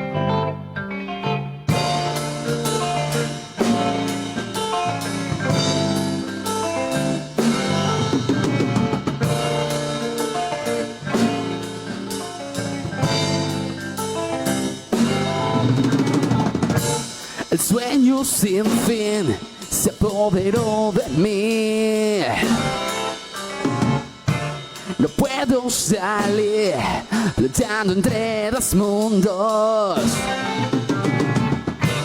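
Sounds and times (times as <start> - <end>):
electric guitar chords: 0.0 - 27.2, 28.0 - 32.0
bass guitar: 0.0 - 32.0
drum kit beat: 1.7 - 32.0.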